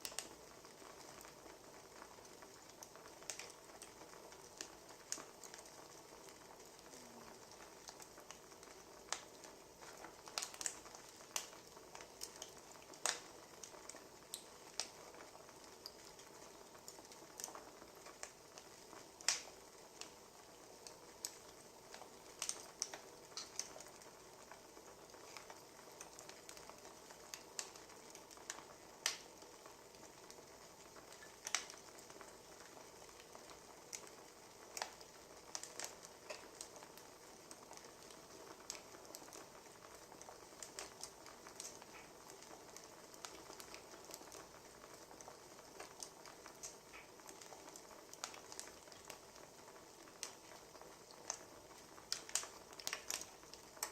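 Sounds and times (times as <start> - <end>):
faint steady hiss: 0.0 - 53.9
wood fire crackling: 0.0 - 53.9.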